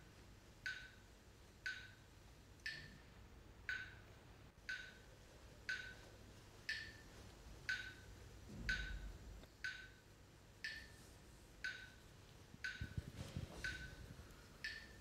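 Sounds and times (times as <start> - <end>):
clock ticking: 0.6 - 11.0, 11.6 - 15.0.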